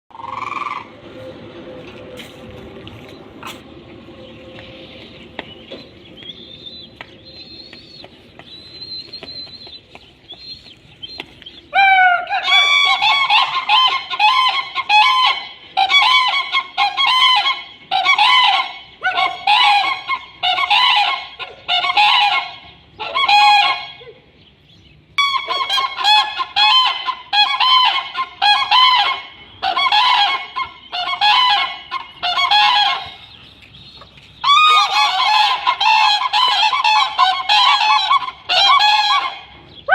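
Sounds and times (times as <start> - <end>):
cranes trumpeting calls: 0.1 - 1.5, 4.2 - 24.1, 25.2 - 39.9.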